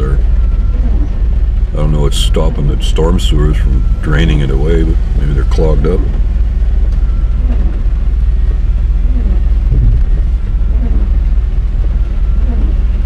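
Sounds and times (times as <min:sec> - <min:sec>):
pickup truck rumbling inside cab: 0:00.0 - 0:13.0.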